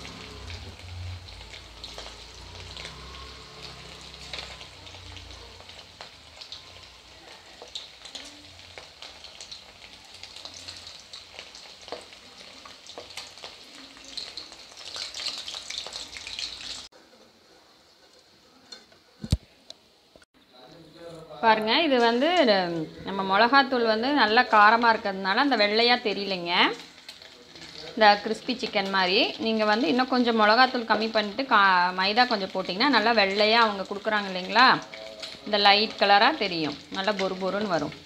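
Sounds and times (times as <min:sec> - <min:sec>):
chicken sizzling in hot oil: 0:00.0 - 0:18.6, 0:23.4 - 0:38.0.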